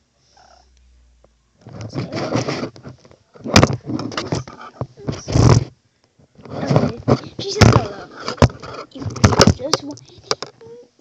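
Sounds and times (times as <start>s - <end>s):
fingers scraping on recording device: 1.6s - 10.6s.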